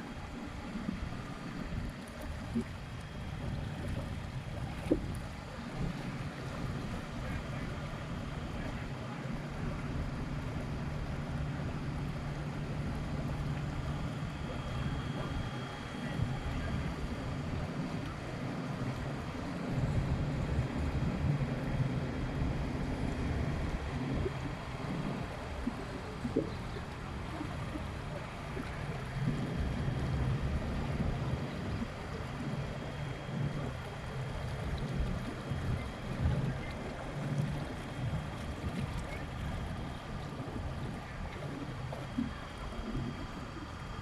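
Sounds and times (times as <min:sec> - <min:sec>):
boat motor rumble: 0:00.0 - 0:44.0
water noise: 0:00.0 - 0:44.0
wind: 0:00.0 - 0:44.0.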